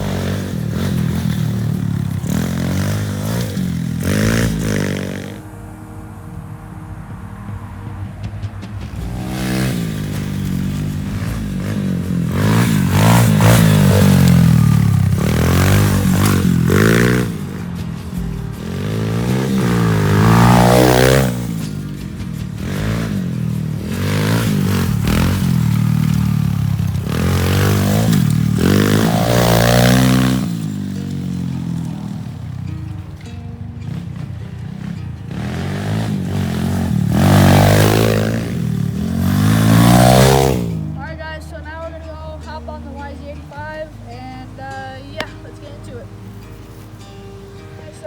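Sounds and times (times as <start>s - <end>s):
background music: 0.0s - 48.0s
dirt bike engine revving: 0.0s - 48.0s.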